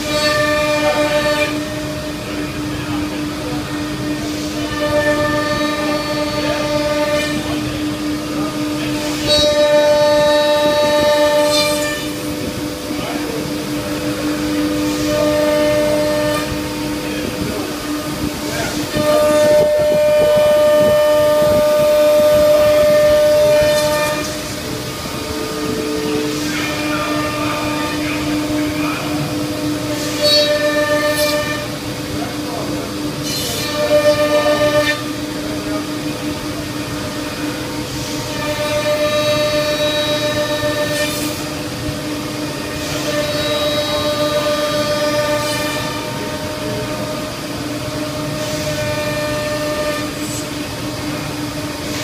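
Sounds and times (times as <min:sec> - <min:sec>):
cnc router whining: 0:00.0 - 0:52.0.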